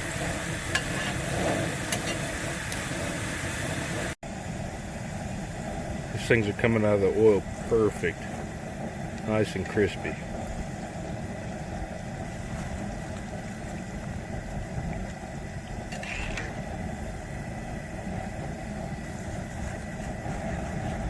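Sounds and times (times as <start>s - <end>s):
chips frying in oil: 0.0s - 4.2s, 6.1s - 21.0s
propane burner rumbling: 0.0s - 21.0s.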